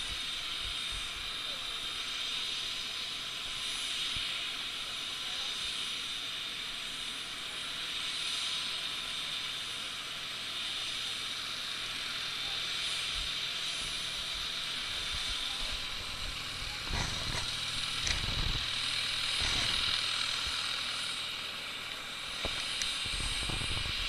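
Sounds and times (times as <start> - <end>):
distant helicopter turbine hiss: 0.0 - 24.0.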